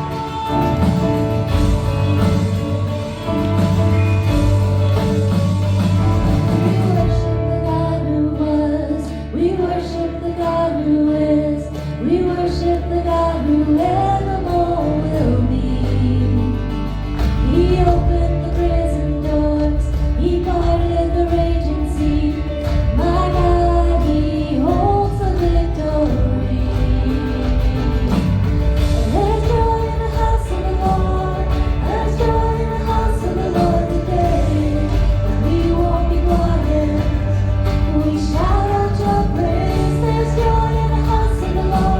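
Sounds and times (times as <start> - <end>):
full band with bass line: 0.0 - 41.9
voices singing worship song: 0.0 - 41.9.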